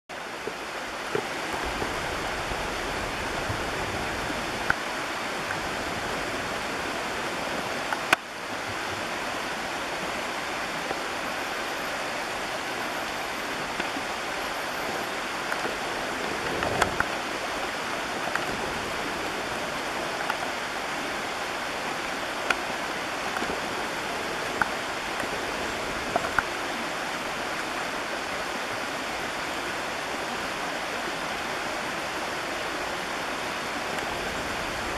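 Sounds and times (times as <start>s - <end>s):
creek water running: 0.1s - 34.9s.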